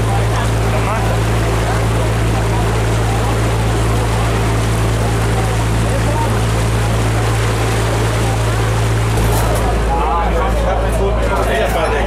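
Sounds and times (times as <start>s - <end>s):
boat diesel engine droning: 0.0s - 12.0s
water rushing: 0.0s - 12.0s.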